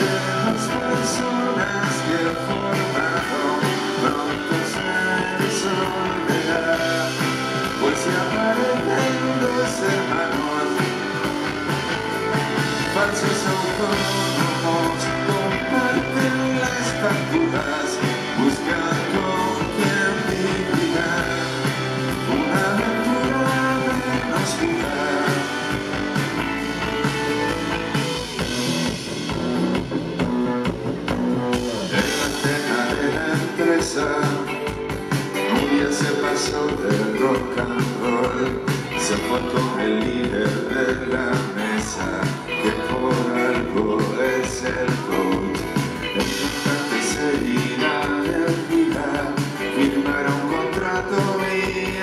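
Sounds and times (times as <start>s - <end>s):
man singing: 0.0s - 28.6s, 31.5s - 52.0s
drum kit: 0.0s - 52.0s
electric guitars: 0.0s - 52.0s.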